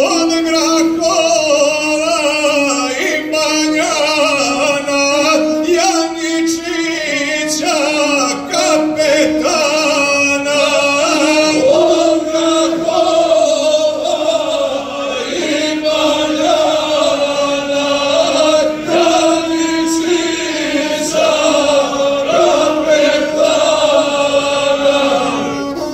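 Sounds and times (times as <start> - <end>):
men singing folk song together: 0.0 - 25.9.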